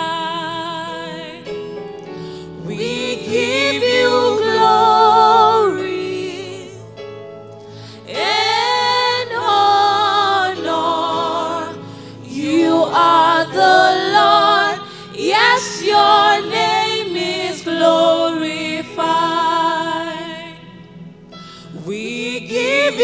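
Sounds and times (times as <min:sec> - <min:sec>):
gospel choir singing: 0:00.0 - 0:23.0
instrumental backing: 0:00.4 - 0:23.0.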